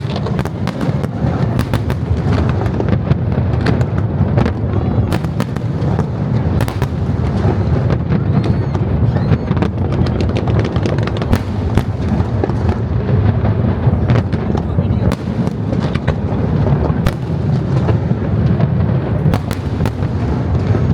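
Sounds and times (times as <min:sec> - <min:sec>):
fireworks crackles and bangs: 0:00.0 - 0:20.9
fireworks rumbling: 0:00.0 - 0:20.9.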